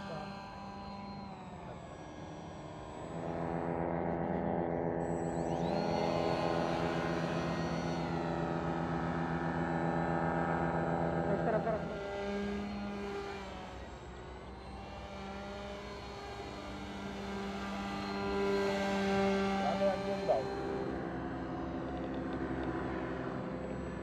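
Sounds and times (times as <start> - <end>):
model aircraft motor buzzing: 0.0 - 24.0.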